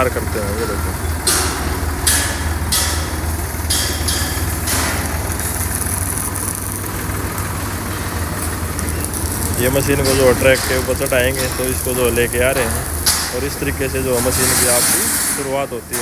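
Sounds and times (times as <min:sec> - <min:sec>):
forklift engine idling: 0:00.0 - 0:16.0.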